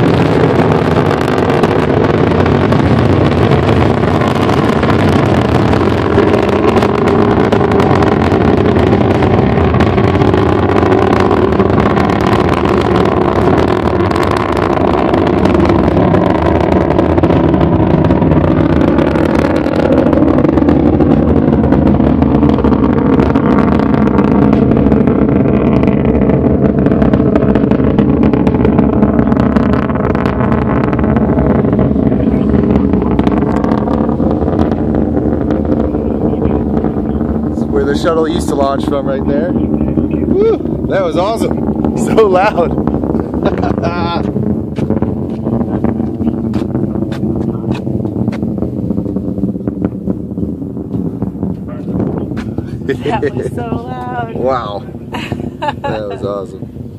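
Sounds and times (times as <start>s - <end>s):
rocket engine rumble: 0.0s - 56.9s.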